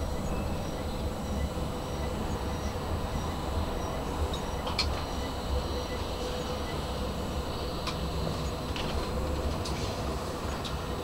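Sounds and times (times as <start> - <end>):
tram low rumble: 0.0 - 11.0
tram squeak: 0.0 - 11.0.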